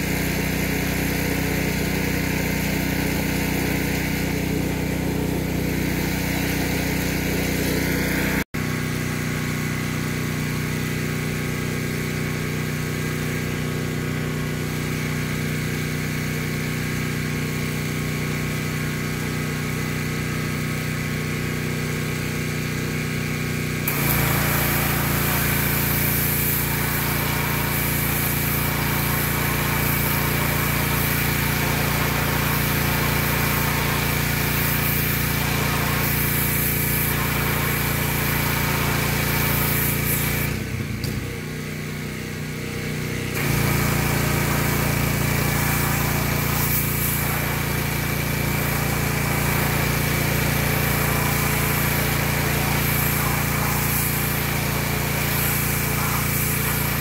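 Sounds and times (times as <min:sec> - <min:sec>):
pressure washer running: 0:00.0 - 0:57.0.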